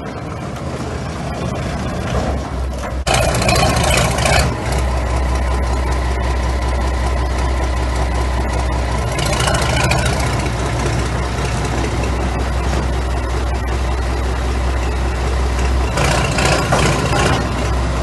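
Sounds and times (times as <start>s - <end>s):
tank engine running: 0.0s - 18.0s.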